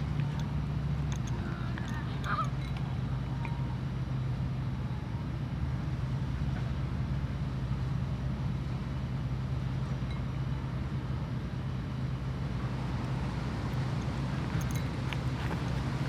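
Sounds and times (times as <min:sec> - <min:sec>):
low rumble with hum: 0:00.0 - 0:16.0.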